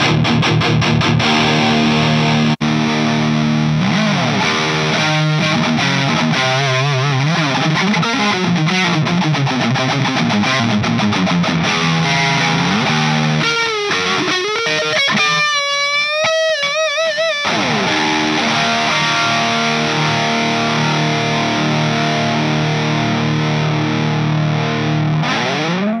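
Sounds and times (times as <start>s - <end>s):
distorted electric guitar: 0.0s - 26.0s.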